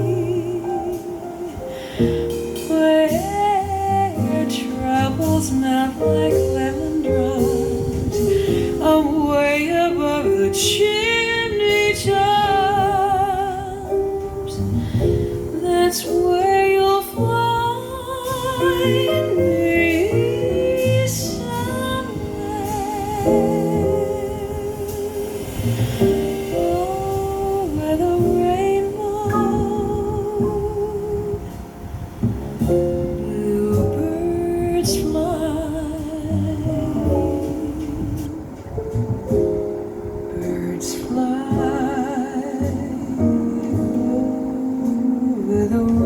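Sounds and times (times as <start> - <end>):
woman singing with vibrato: 0.0 - 25.6, 26.5 - 32.1, 33.0 - 38.8, 40.3 - 46.0
instrumental accompaniment: 0.0 - 46.0.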